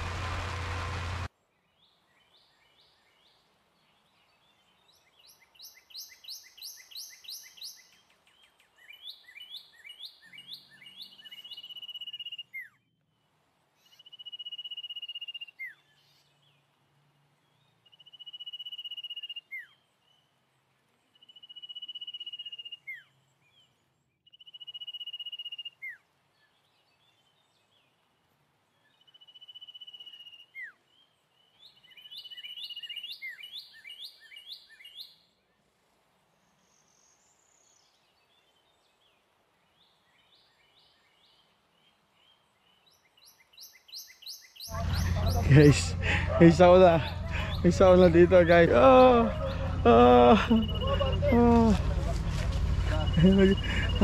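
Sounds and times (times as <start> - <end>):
bird chirping: 0.0 - 35.6, 36.5 - 54.0.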